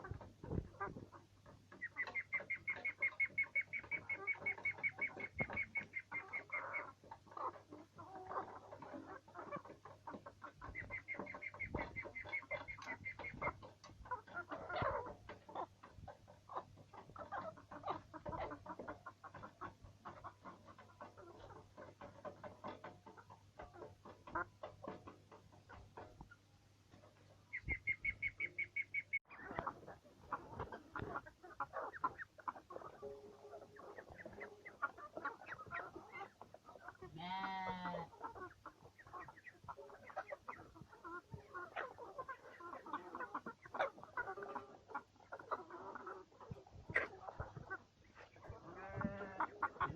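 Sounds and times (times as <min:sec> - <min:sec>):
poultry clucking: 0:00.0 - 0:49.9.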